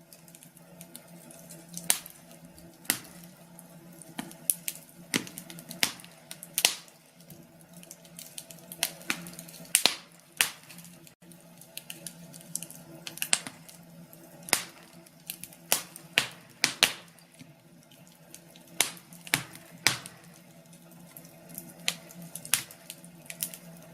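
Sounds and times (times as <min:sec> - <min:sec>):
faint steady hum: 0:00.0 - 0:23.9
wood fire crackling: 0:00.0 - 0:23.9.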